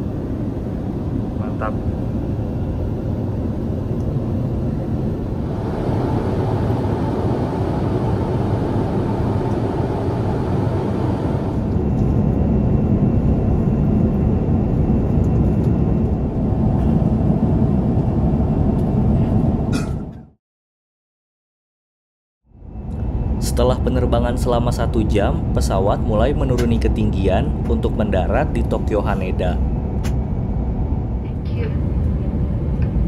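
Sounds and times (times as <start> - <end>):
airliner cabin engine rumble: 0.0 - 20.4, 22.6 - 33.0.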